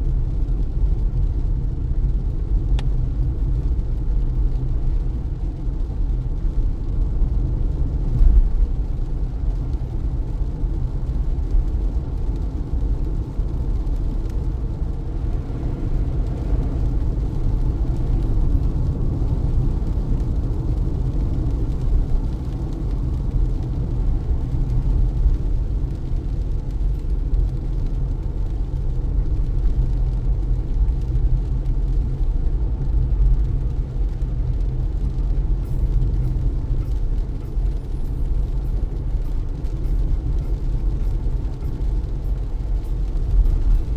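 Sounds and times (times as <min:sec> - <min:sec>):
faint hiss of rain: 0:00.0 - 0:43.9
road and tyre noise: 0:00.0 - 0:43.9.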